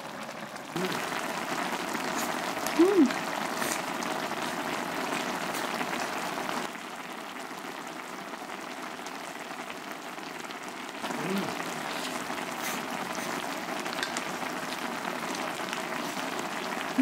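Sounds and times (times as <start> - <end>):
stew bubbling in a pan: 0.0 - 17.0.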